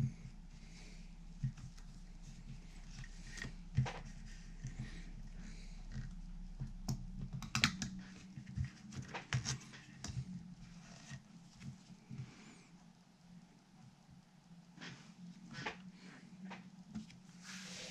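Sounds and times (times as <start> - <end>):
low electrical hum: 0.0 - 17.9.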